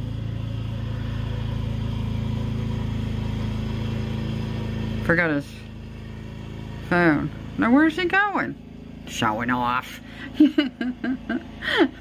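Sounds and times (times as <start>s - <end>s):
lawn mower engine humming: 0.0s - 12.0s.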